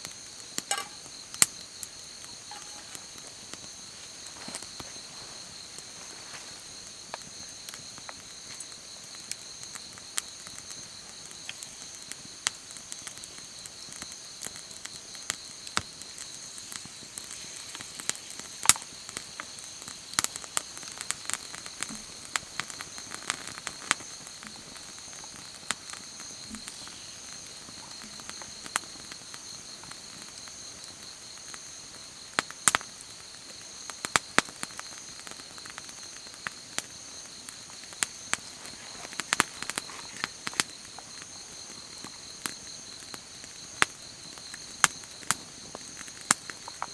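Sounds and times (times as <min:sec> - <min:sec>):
campfire crackling and popping: 0:00.0 - 0:46.9
insect chirring: 0:00.0 - 0:46.9.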